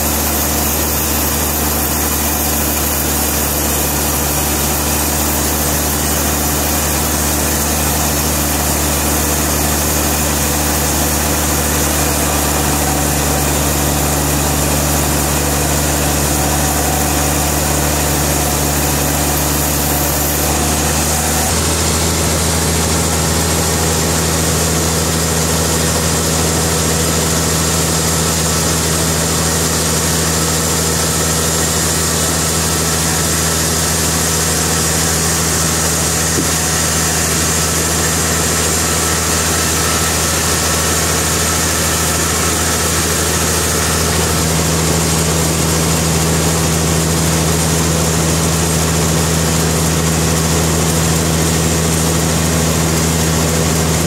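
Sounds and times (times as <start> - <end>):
sawmill engine droning: 0.0 - 54.0.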